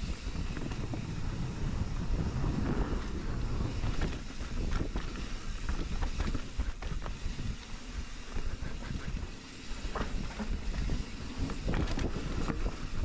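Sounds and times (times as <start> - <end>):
bike knocks and rattles: 0.0 - 13.0
wind rumbling on microphone: 0.0 - 13.0.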